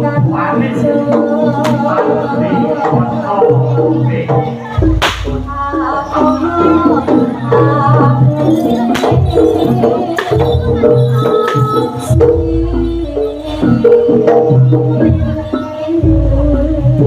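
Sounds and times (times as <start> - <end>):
hand drums: 0.0 - 17.0
pitched percussion: 0.0 - 17.0
sustained melody: 0.8 - 17.0.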